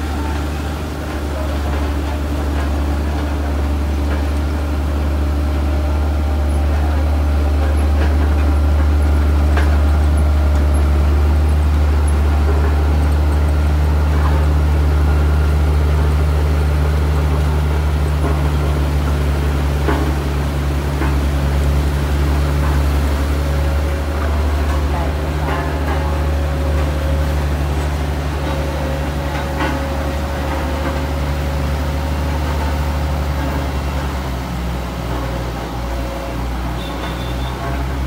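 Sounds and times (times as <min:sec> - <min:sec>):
diesel engine droning under load: 0:00.0 - 0:38.0
grader blade pushing soil: 0:00.0 - 0:38.0.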